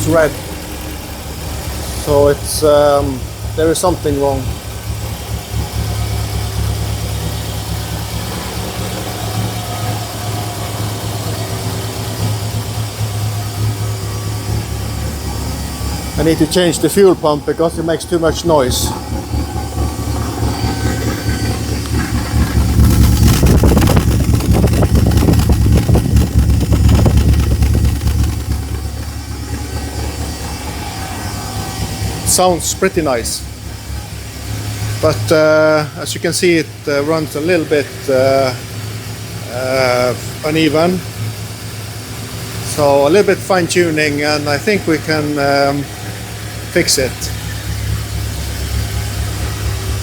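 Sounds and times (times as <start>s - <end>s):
car engine idling unevenly: 0.0s - 50.0s.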